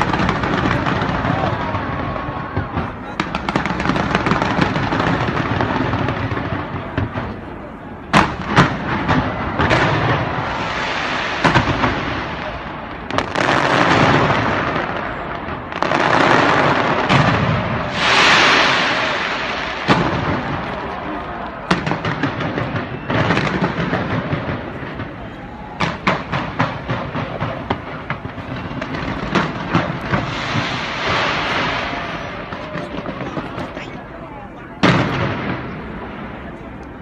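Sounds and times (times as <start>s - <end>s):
fireworks bangs: 0.0s - 37.0s
fireworks crackle: 0.0s - 37.0s.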